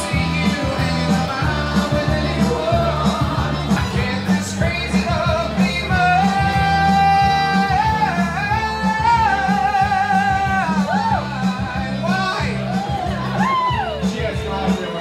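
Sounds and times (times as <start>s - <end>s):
amplified backing music: 0.0s - 15.0s
man singing into microphone: 0.0s - 15.0s.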